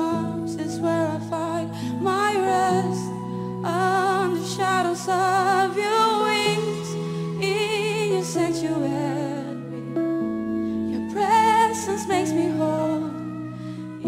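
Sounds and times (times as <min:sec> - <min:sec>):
woman singing with vibrato: 0:00.0 - 0:09.9, 0:11.0 - 0:14.0.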